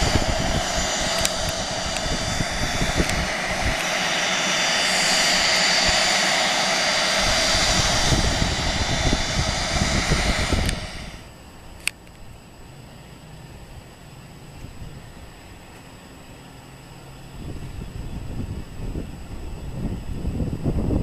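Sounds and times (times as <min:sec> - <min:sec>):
jet engine whine: 0:00.0 - 0:21.0.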